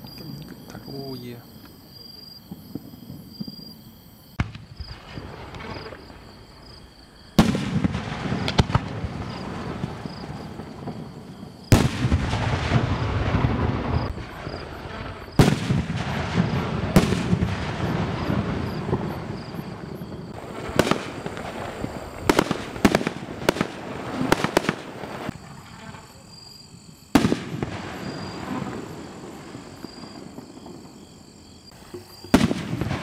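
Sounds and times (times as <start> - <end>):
sharp firework cracks: 2.4 - 6.6, 7.3 - 25.4, 27.1 - 33.0
firework booms with rumbling tail: 4.4 - 25.8, 26.7 - 31.6, 32.3 - 33.0.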